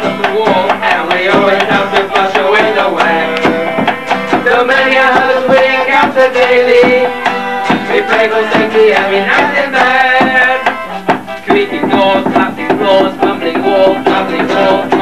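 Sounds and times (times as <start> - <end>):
percussive strummed beat: 0.0 - 15.0.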